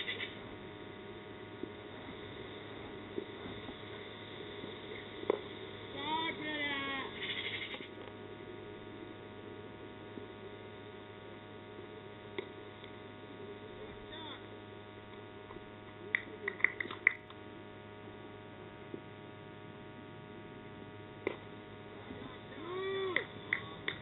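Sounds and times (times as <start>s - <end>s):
faint outdoor background noise: 0.0s - 24.0s
low electrical hum: 0.0s - 24.0s.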